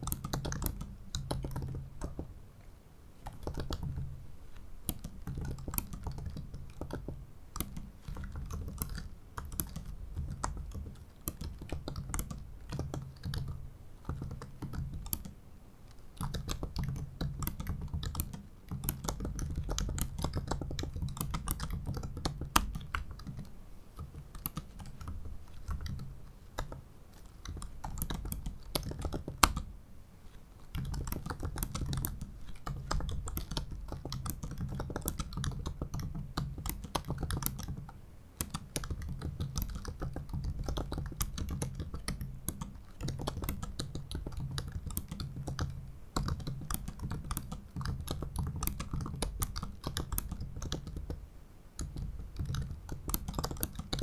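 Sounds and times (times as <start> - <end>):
fast keyboard typing: 0.0 - 2.3, 3.2 - 4.2, 4.8 - 29.7, 30.6 - 51.2, 51.8 - 54.0.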